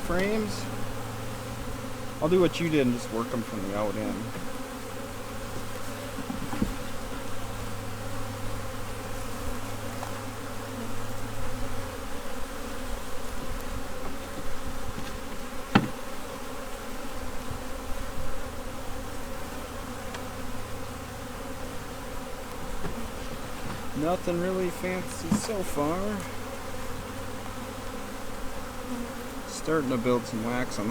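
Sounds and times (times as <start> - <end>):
honey bees buzzing: 0.0 - 30.9.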